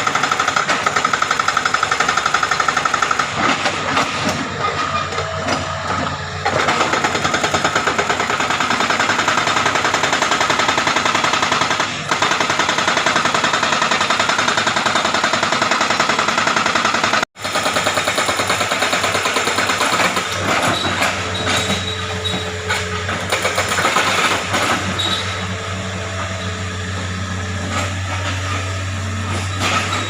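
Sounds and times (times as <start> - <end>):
excavator engine: 0.0 - 30.0
hydraulic rock breaker hammering: 0.0 - 30.0.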